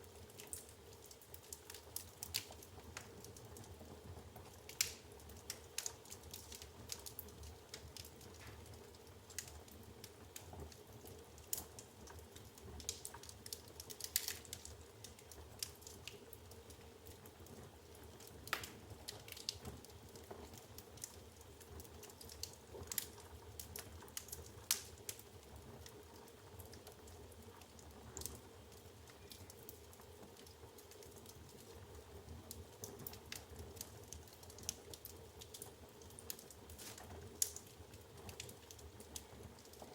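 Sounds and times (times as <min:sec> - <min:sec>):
logs crackling in a fireplace: 0:00.0 - 0:39.9.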